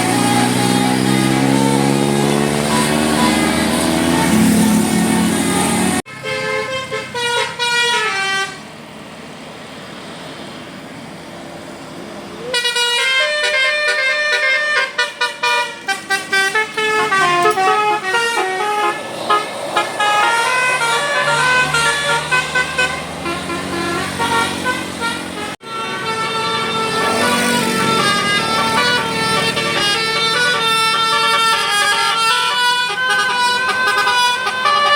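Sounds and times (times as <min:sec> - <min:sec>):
multi-tone bus horn playing tunes: 0:00.0 - 0:08.7, 0:12.4 - 0:34.9.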